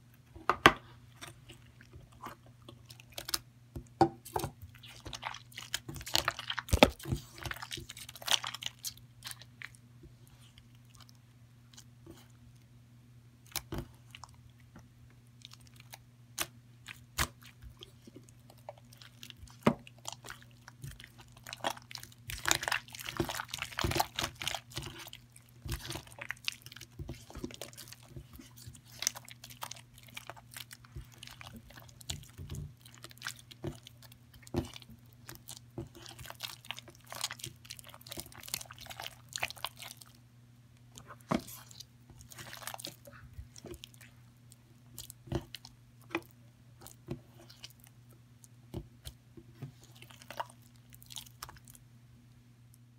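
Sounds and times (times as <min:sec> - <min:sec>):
faint low hum: 0:00.0 - 0:52.9.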